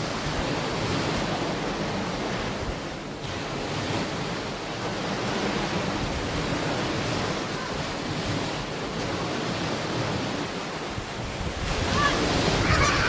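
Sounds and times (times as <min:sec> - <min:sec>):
ocean waves on a beach: 0:00.0 - 0:13.0
wind on microphone: 0:00.0 - 0:13.0.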